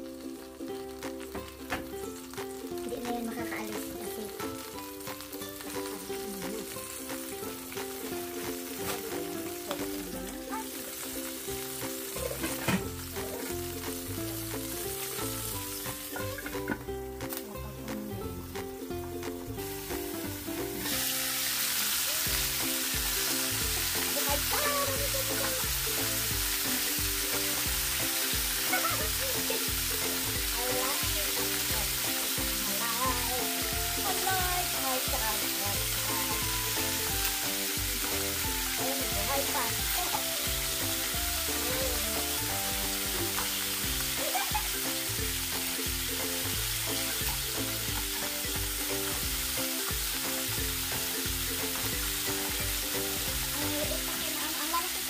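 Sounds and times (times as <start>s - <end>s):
faint background music: 0.0s - 55.0s
food sizzling in a pan: 0.0s - 55.0s.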